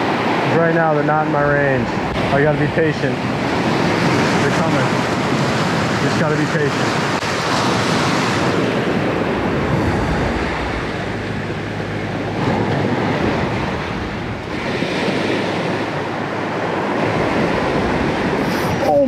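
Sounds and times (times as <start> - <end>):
surf breaking over rocks: 0.0 - 19.0.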